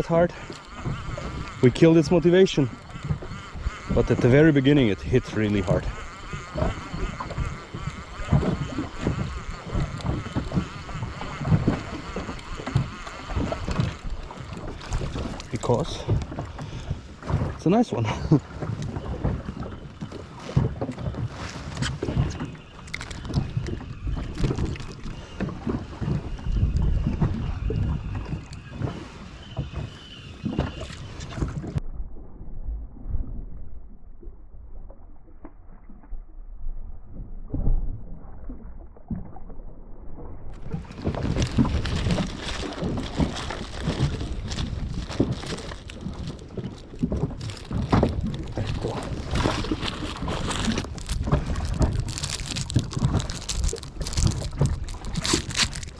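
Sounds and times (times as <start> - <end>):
wind on microphone: 0.0 - 33.8, 40.4 - 55.9
water around a boat: 0.0 - 55.9.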